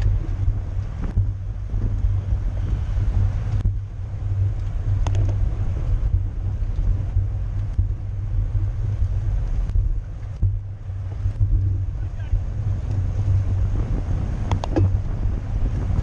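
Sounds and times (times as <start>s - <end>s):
wind and road noise rumble: 0.0s - 16.0s.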